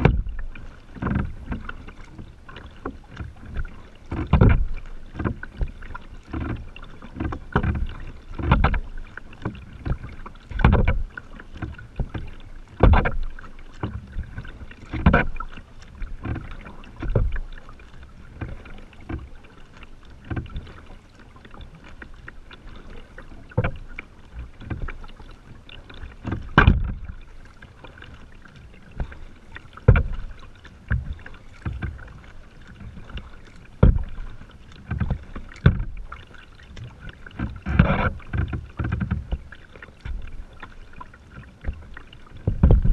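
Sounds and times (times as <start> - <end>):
paddle splashing in water: 0.0 - 42.9.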